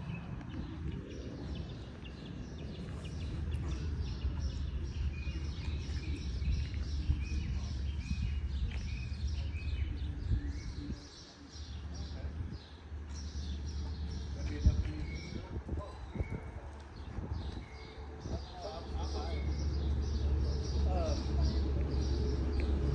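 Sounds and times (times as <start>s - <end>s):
birds chirping: 0.0s - 22.9s
low steady outdoor rumble: 0.0s - 22.9s.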